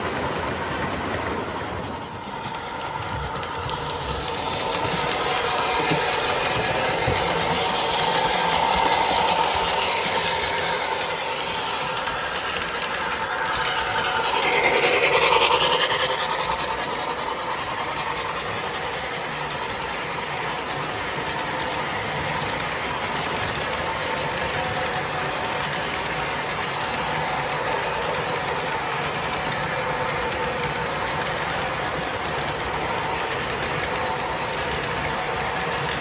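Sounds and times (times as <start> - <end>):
model train wheels clicking: 0.0 - 36.0.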